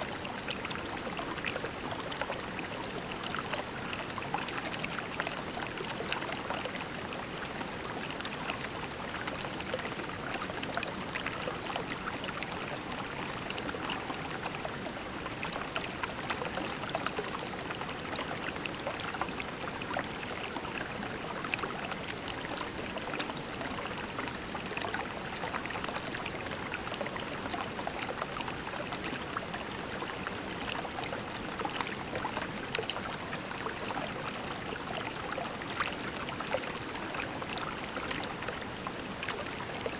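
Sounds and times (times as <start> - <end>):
creek water flowing over pebbles: 0.0 - 39.9.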